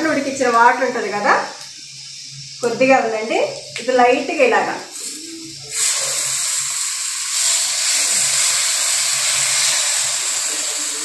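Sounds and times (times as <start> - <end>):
water sizzling in hot oil: 0.0 - 11.0.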